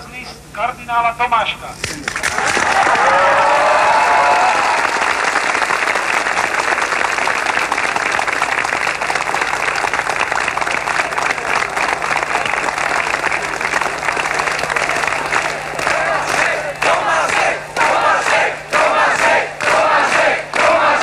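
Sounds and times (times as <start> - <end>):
faint low hum: 0.0 - 21.0
crowd applauding: 2.0 - 21.0.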